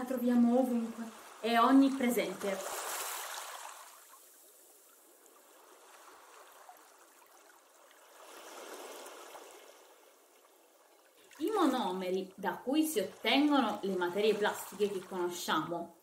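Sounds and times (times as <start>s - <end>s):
faint rushing water: 0.0s - 16.0s.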